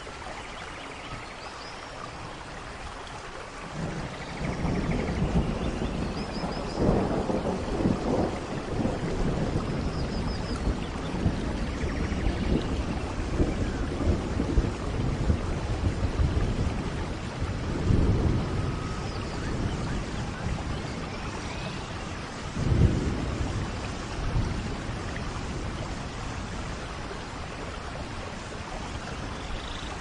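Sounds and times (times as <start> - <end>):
rain falling: 0.0 - 30.0
low thunder rumbles: 3.6 - 30.0.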